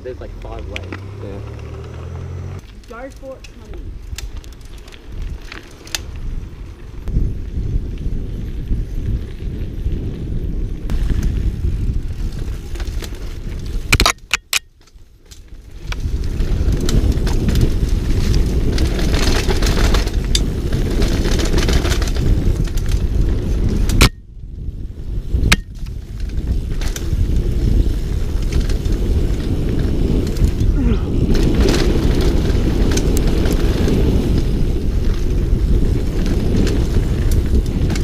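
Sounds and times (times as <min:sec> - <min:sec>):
wind buffeting microphone: 0:00.0 - 0:38.0
mountain bike rattling over dirt: 0:00.4 - 0:38.0.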